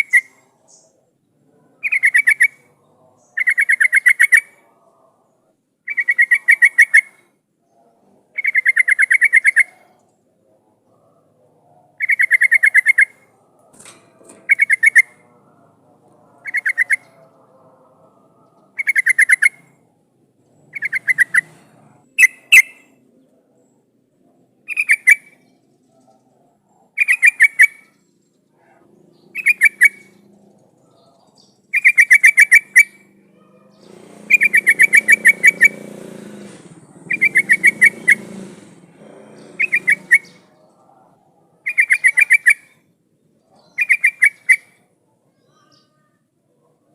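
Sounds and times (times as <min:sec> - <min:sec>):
bird singing chattering phrases: 0:00.0 - 0:46.3.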